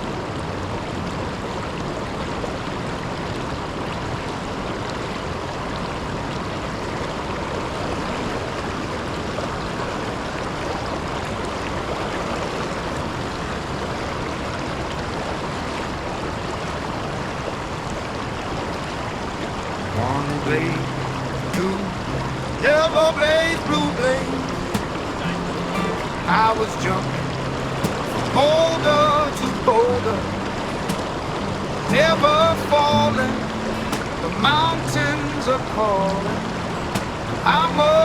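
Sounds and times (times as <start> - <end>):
water rushing over waterfall: 0.0 - 38.0.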